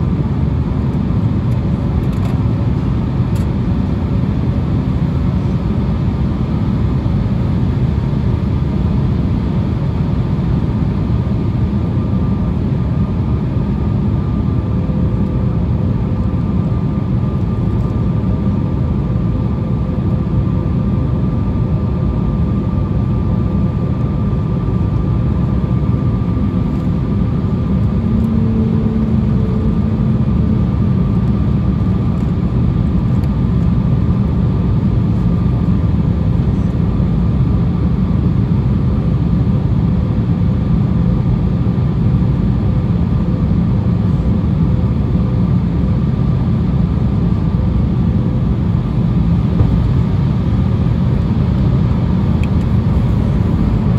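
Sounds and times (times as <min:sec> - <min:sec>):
airplane cabin rumble: 0:00.0 - 0:53.9
faint jet engine whine: 0:00.0 - 0:53.9.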